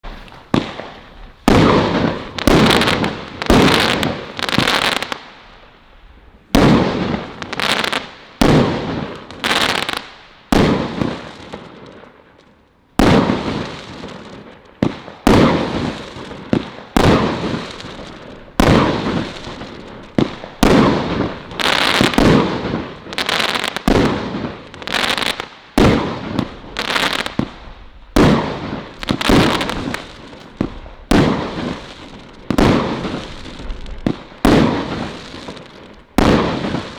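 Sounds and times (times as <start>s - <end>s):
firework shots crackling: 0.0s - 5.7s, 6.5s - 36.9s.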